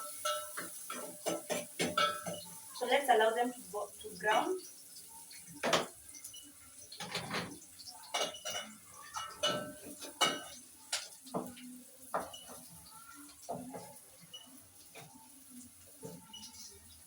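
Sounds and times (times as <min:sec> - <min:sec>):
onions frying: 0:00.0 - 0:17.0.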